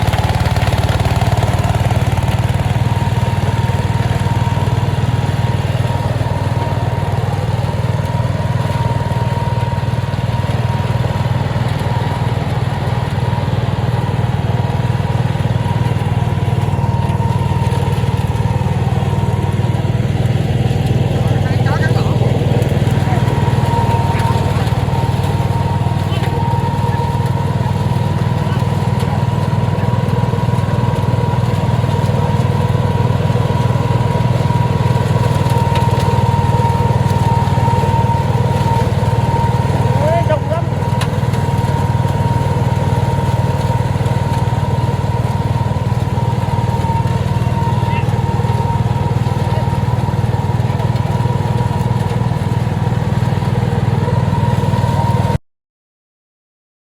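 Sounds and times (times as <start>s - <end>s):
mower engine running: 0.0s - 55.4s.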